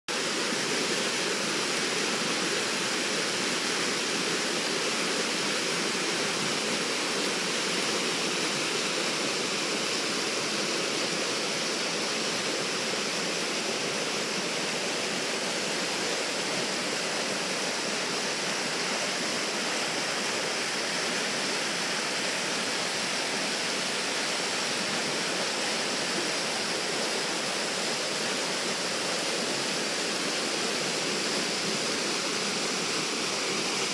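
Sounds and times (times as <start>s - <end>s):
river rushing over rocks: 0.1s - 33.9s.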